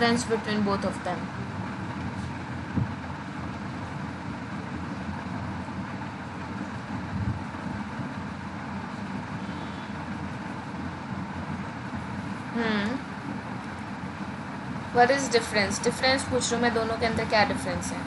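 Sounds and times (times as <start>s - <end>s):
low background rumble and hiss: 0.0s - 18.0s.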